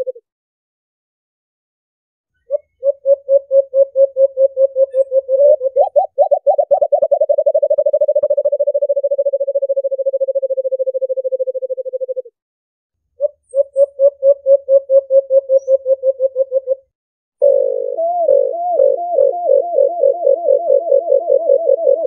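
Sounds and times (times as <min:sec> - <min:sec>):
dove call low hooting: 0:00.0 - 0:00.2, 0:02.4 - 0:12.3, 0:13.2 - 0:22.0.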